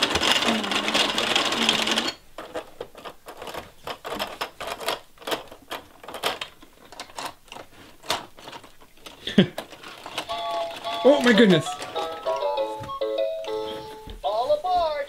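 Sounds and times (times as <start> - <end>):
plastic clicking of toy gears: 0.0 - 12.6.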